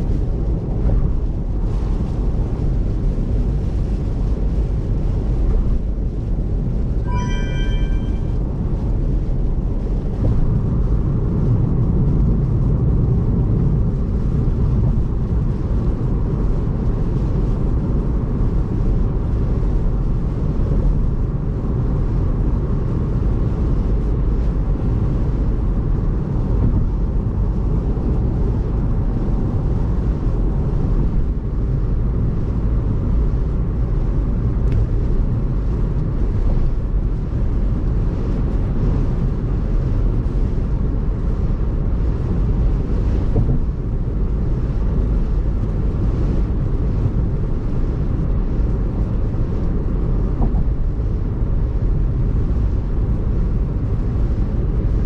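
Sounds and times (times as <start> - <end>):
tyres rumbling on wet road: 0.0 - 7.0, 8.4 - 55.0.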